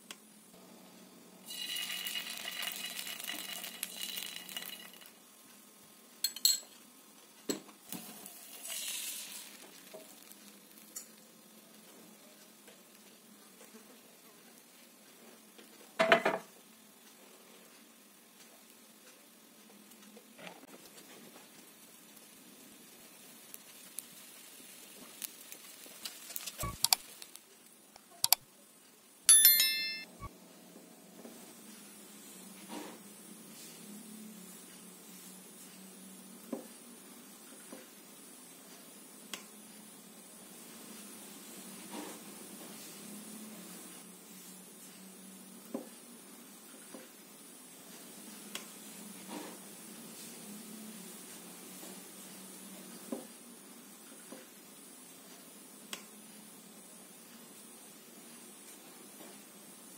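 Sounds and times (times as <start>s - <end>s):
batter sizzling in frying pan: 1.3s - 28.3s, 31.4s - 59.9s.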